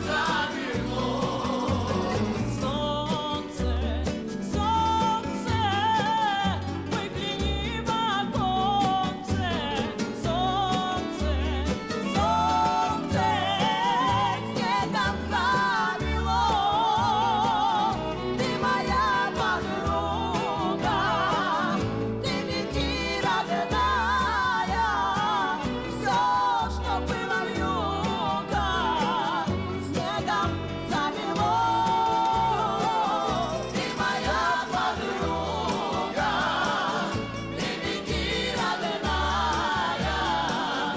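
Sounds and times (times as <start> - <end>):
instrumental accompaniment with bass: 0.0 - 40.9
person singing with vibrato: 0.0 - 40.9.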